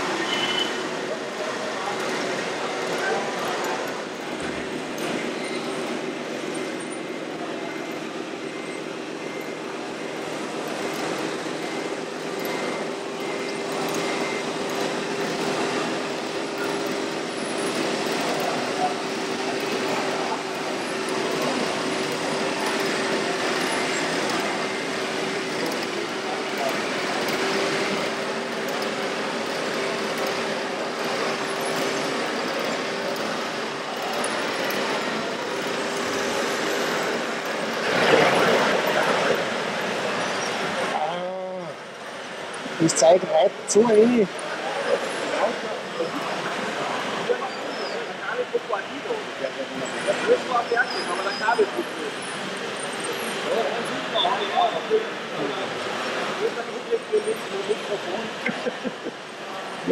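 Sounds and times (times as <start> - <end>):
small motors and gears: 0.0 - 59.9
steady mechanical hum: 0.0 - 59.9.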